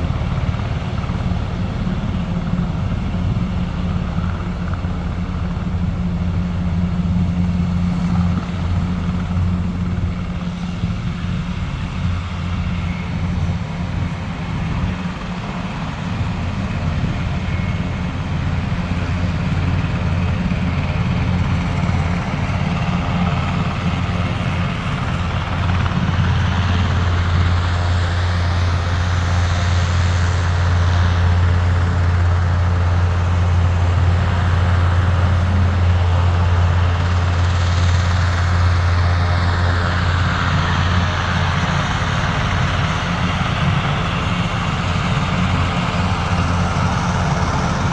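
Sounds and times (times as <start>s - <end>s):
helicopter rotor and turbine: 0.0s - 47.9s.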